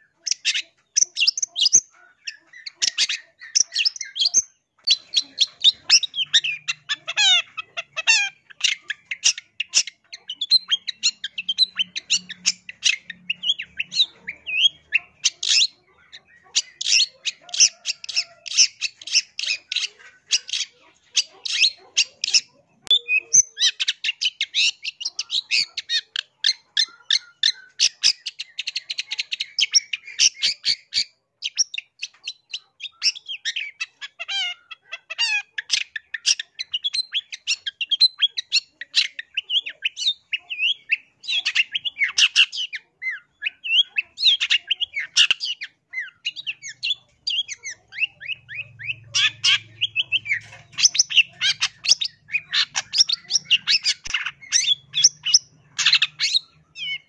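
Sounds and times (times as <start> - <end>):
bird chattering song: 0.0 - 57.0
bird harsh squawks: 0.0 - 57.0.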